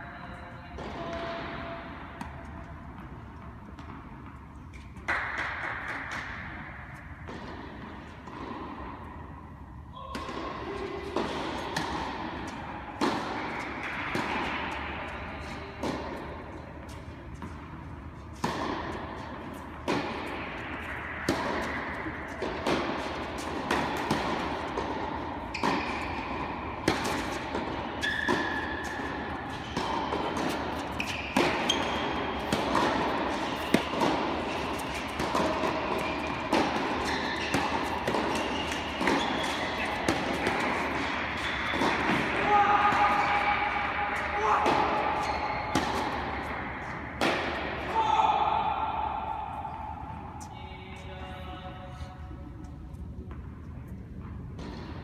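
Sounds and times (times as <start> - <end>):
tennis balls struck by rackets: 0.7 - 50.5, 52.9 - 55.0.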